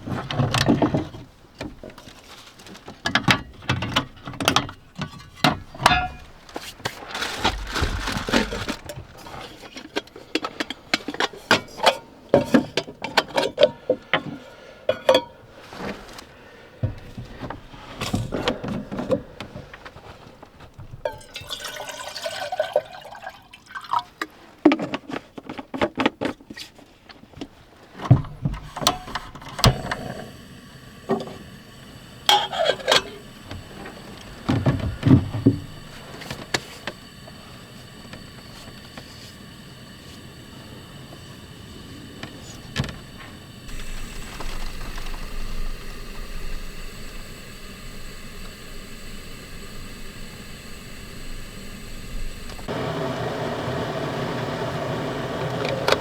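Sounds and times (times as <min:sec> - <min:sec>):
handling noises: 0:00.0 - 0:21.1, 0:24.2 - 0:53.1.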